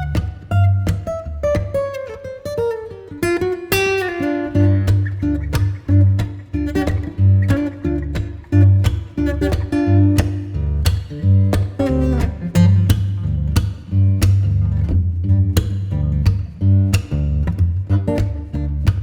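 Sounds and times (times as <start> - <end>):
steady bass line: 0.0 - 1.6, 4.6 - 19.0
plucked guitar: 0.0 - 19.0.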